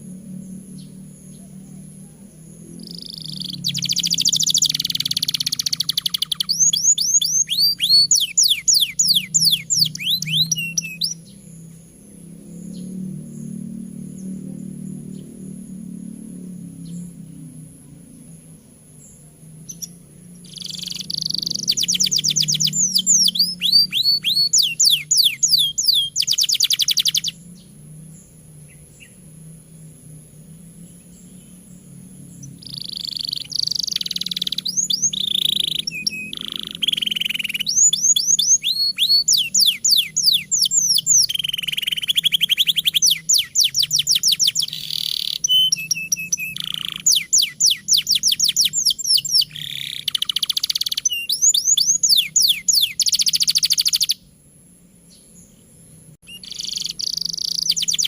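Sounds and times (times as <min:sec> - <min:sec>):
canary singing trills: 0:00.0 - 0:54.4, 0:55.0 - 0:58.0.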